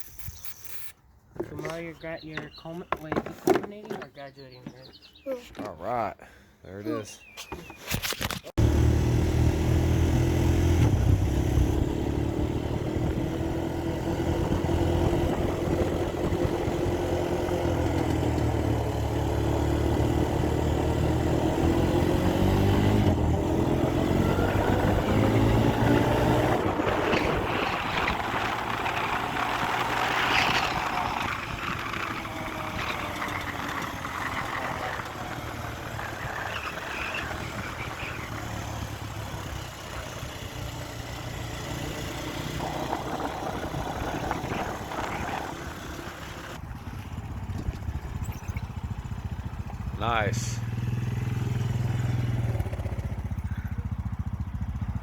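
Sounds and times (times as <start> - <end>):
atv engine revving: 8.6 - 55.0.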